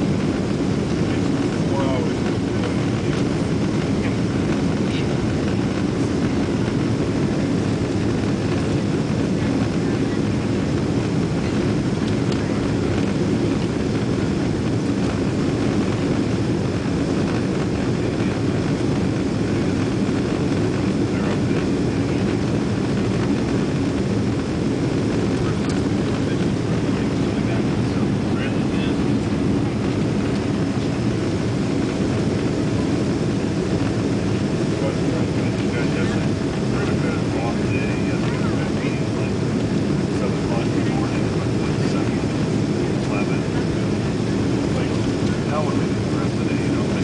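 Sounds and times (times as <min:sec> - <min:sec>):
jet engine cabin roar: 0:00.0 - 0:47.0.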